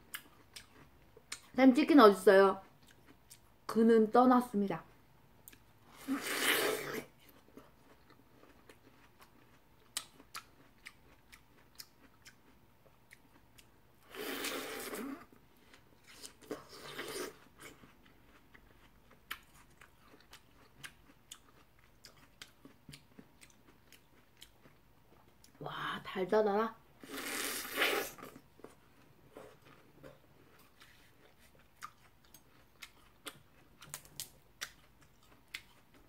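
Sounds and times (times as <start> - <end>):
watermelon bitten and chewed: 5.5 - 25.6, 27.0 - 36.0.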